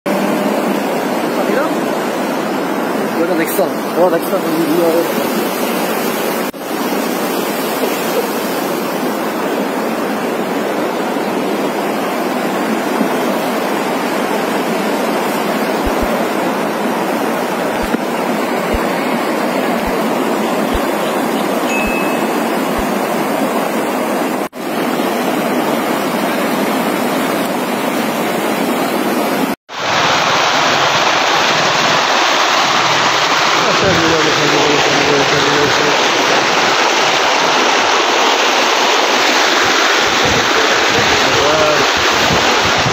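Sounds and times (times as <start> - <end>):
floodwater rushing down street: 0.1 - 42.9.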